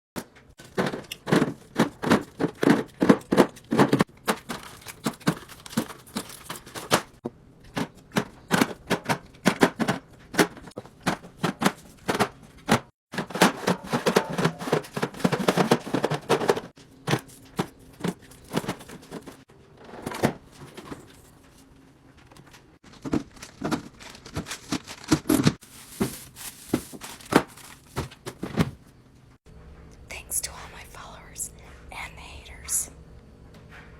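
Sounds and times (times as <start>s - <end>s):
containers clinking on fridge shelves: 0.2s - 28.8s.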